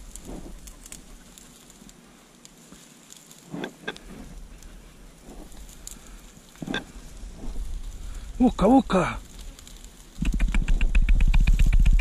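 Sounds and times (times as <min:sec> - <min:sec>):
dry scrub rustling and crackling: 0:00.0 - 0:12.0.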